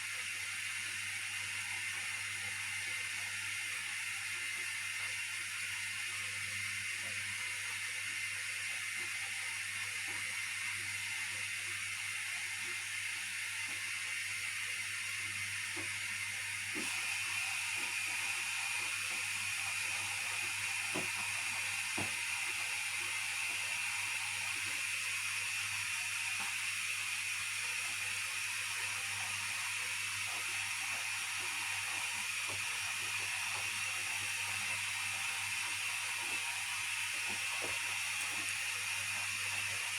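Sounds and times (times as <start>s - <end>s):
washing machine hiss: 0.0s - 39.9s.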